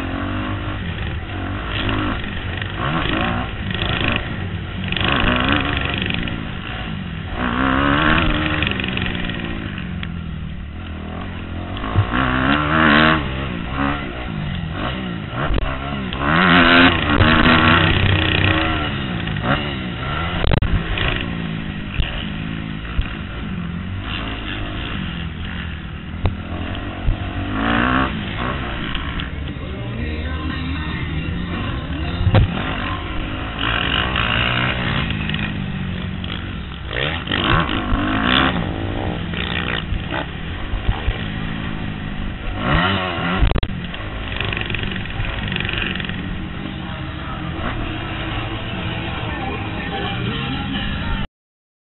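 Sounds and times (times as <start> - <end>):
motocross engine revving: 0.0 - 51.3.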